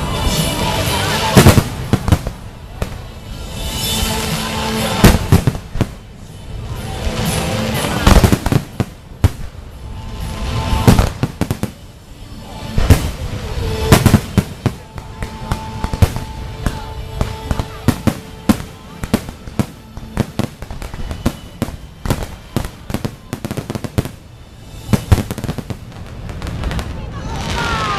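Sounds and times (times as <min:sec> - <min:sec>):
fireworks bursting and crackling: 0:00.0 - 0:27.9.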